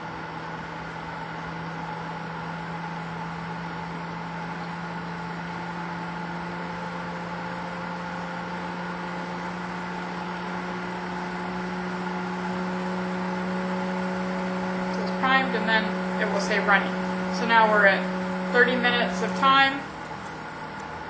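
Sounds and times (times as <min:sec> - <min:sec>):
pool pump motor humming: 0:00.0 - 0:21.0.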